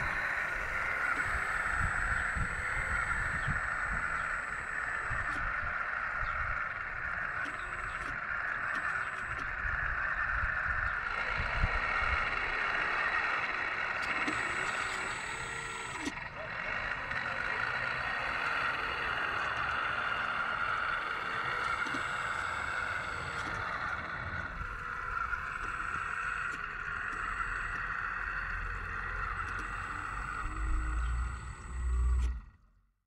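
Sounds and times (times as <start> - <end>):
electric motor whine: 0.0 - 32.9.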